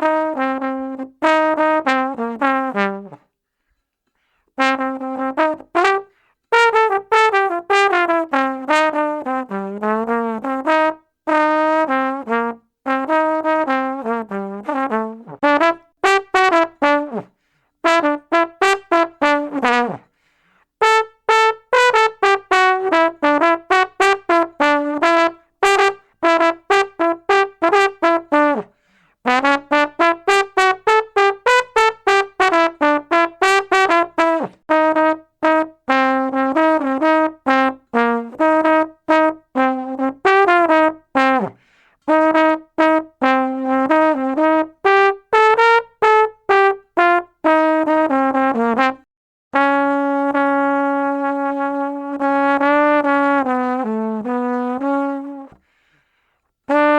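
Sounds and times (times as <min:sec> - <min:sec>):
brass instrument playing short notes: 0:04.6 - 0:20.1, 0:20.8 - 0:49.0, 0:49.6 - 0:55.6, 0:56.7 - 0:56.9.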